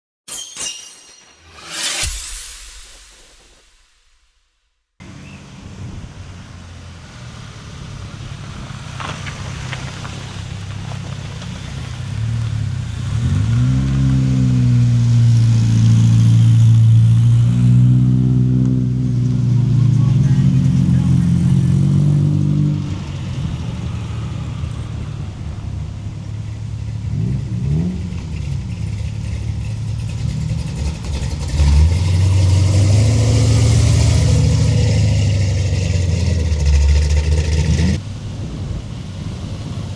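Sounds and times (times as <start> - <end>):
car engines revving: 5.0 - 39.9.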